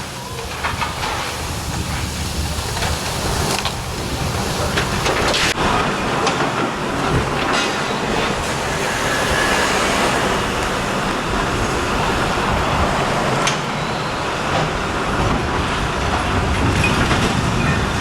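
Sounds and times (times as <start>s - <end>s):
heavy machinery and debris noise: 0.0s - 18.0s.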